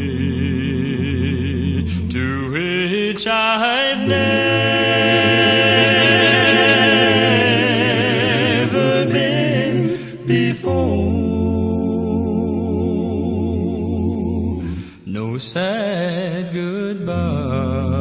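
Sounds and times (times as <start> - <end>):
a cappella quartet singing: 0.0 - 18.0.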